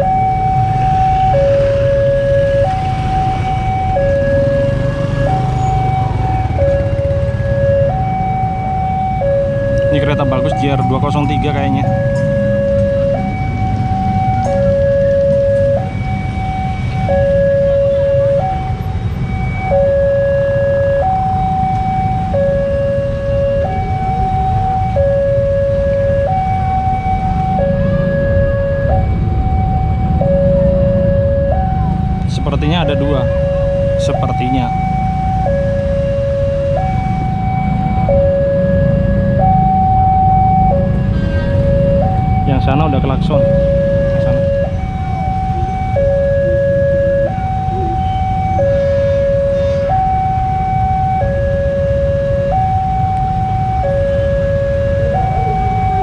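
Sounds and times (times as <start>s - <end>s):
two-tone crossing alarm: 0.0s - 56.0s.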